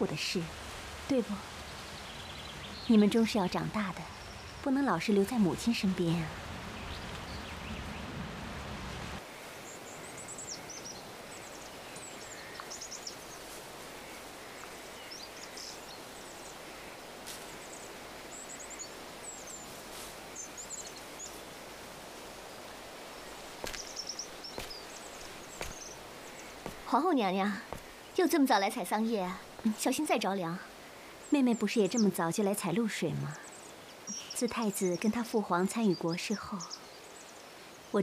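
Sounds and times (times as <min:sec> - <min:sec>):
steady background hiss: 0:00.0 - 0:38.0
small birds chirping: 0:01.1 - 0:08.2, 0:09.3 - 0:21.9, 0:23.0 - 0:38.0.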